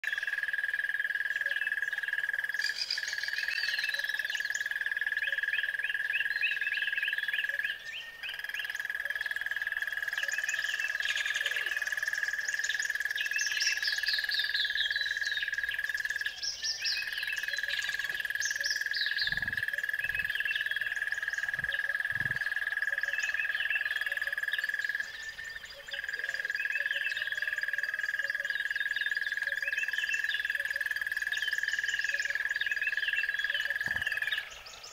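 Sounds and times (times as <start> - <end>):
frog chorus: 0.0 - 34.9
songbirds trilling: 0.0 - 34.9.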